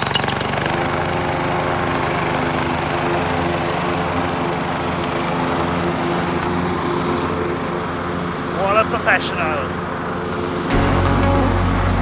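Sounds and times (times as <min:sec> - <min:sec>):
lawn tractor engine mowing: 0:00.0 - 0:10.7.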